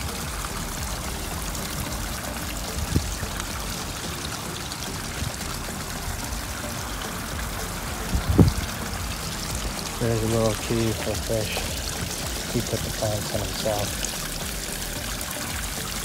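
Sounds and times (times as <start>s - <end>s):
fountain splashing into pond: 0.0s - 16.0s.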